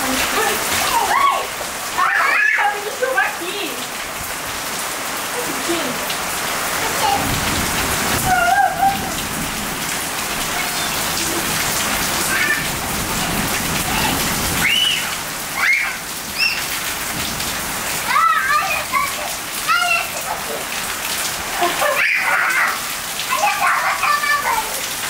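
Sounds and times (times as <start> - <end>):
heavy rain on wet paving: 0.0 - 25.0.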